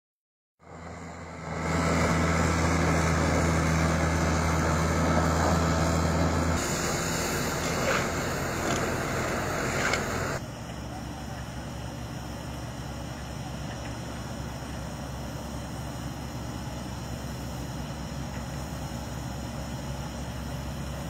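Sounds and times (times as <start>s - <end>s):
diesel engine hum: 0.6s - 21.0s
rough noisy engine: 0.6s - 21.0s.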